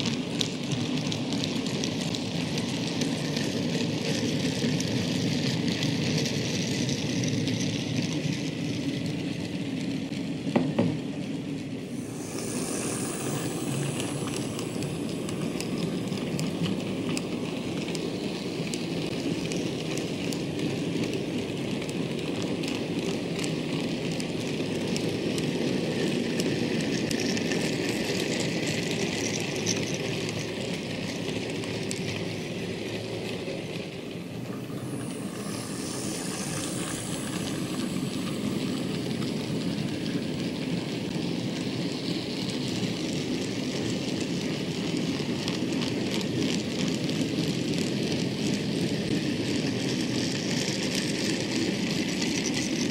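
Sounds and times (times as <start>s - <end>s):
model wagon wheels rumbling: 0.0s - 10.4s, 11.0s - 52.9s
wheels clicking over rail joints: 0.0s - 52.9s.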